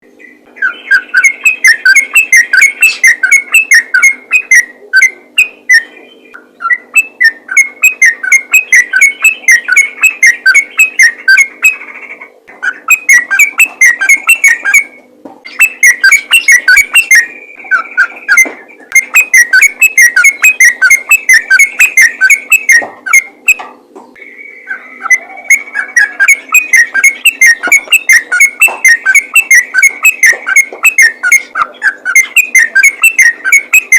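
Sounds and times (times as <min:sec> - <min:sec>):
bulbul singing fast whistled runs: 0:00.0 - 0:23.6, 0:24.2 - 0:33.9
faint steady hum: 0:00.0 - 0:33.9.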